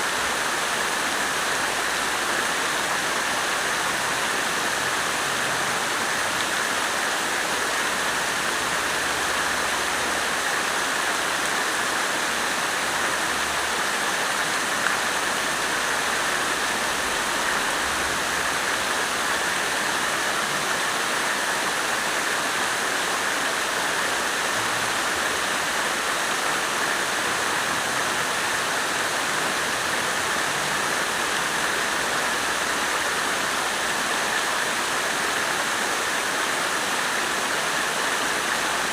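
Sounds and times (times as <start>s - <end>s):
water fountain splashing: 0.0s - 38.9s.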